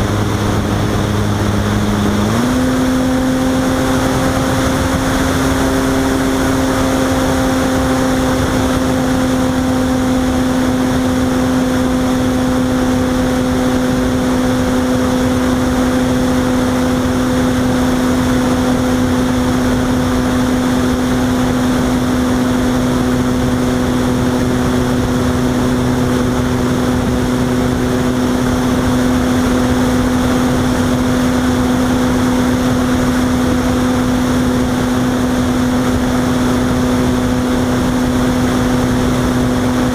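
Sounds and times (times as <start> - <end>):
airflow rushing: 0.0 - 39.9
steady motor hum: 0.0 - 39.9.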